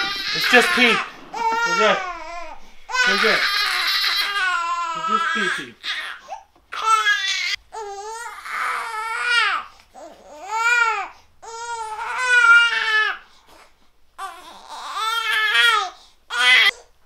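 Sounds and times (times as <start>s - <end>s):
baby crying: 0.0s - 13.2s, 14.2s - 16.8s.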